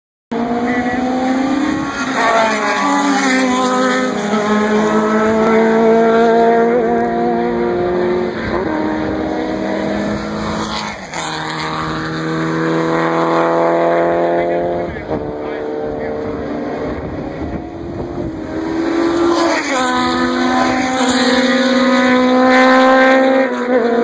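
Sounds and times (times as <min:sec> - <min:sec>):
race car engine revving: 0:00.3 - 0:24.0.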